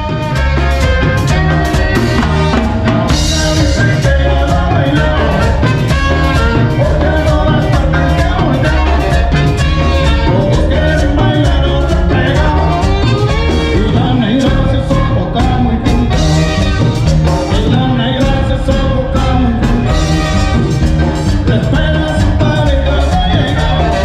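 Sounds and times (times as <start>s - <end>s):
cumbia band playing live: 0.0s - 24.0s
person singing: 0.0s - 24.0s
steady percussion beat: 0.0s - 24.0s.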